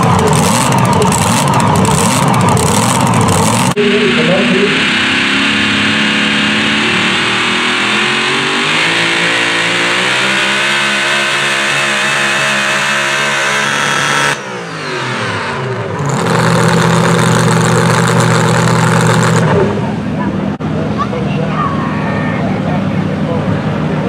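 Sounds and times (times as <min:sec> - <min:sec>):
engine revs falling: 0:00.0 - 0:21.0
truck engine at full throttle: 0:00.0 - 0:24.0.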